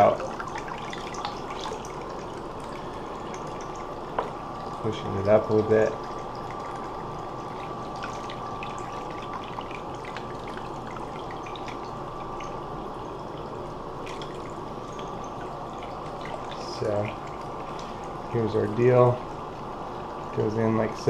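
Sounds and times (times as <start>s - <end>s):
water running and trickling: 0.0s - 21.0s.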